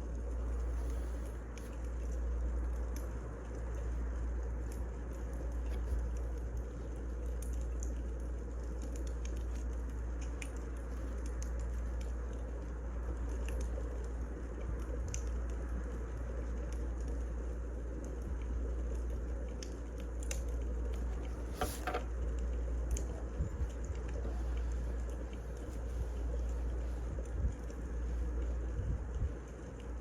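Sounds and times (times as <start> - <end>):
fire low rumble: 0.0 - 30.0.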